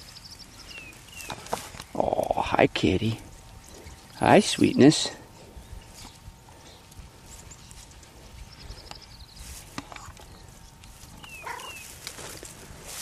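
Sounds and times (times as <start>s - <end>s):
rustling in dry grass: 0.0s - 13.0s.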